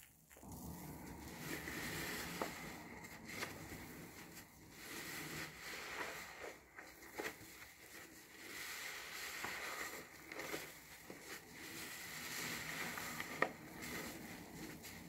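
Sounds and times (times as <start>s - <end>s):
soapy sponge squishing: 0.0s - 15.0s.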